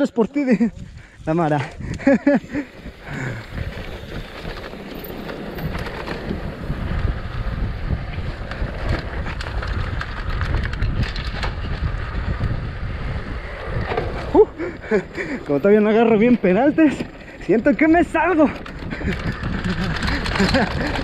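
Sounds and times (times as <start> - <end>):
wind buffeting microphone: 0.6 - 21.0
bike clicks and rattles: 0.7 - 21.0
bike tyre rumble on dirt: 0.8 - 21.0.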